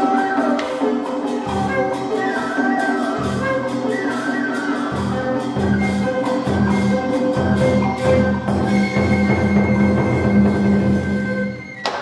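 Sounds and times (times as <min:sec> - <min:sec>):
melodic instrumental ensemble: 0:00.0 - 0:12.0.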